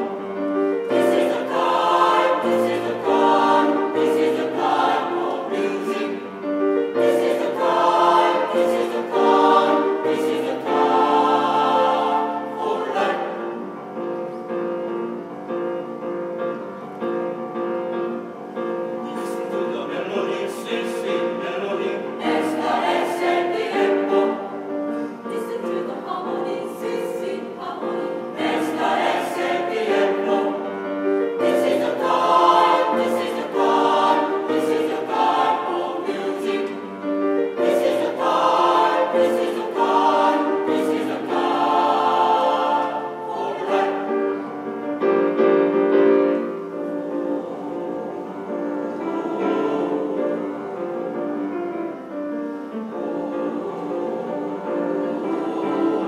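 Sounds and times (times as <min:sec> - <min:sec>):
mixed choir singing in harmony: 0:00.0 - 0:56.0.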